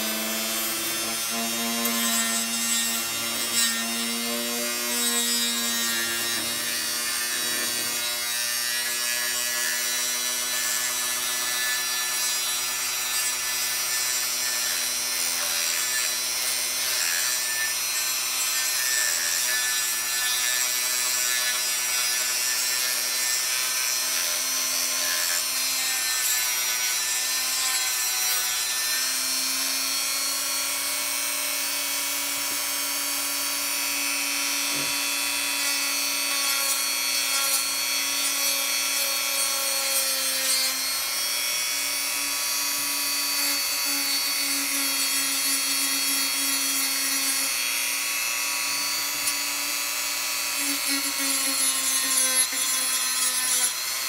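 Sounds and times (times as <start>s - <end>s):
rotary tool motor whine: 0.0s - 54.0s
sanding rasp: 0.0s - 54.0s.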